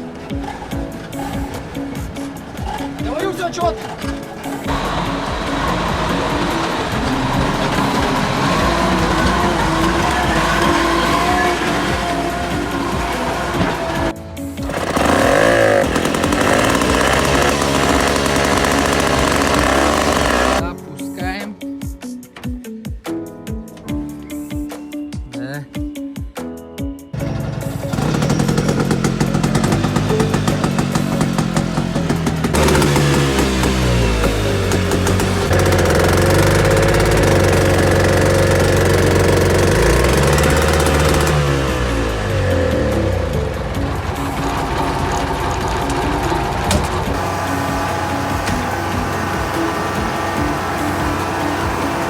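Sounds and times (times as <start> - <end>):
small engine revving: 0.0 - 20.6, 27.2 - 52.0
background music: 0.0 - 52.0.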